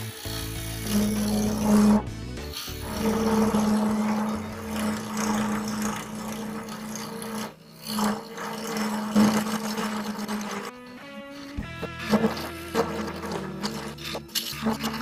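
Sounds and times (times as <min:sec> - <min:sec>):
turning tool scraping wood: 0:00.0 - 0:15.0
wood lathe humming: 0:00.0 - 0:15.0.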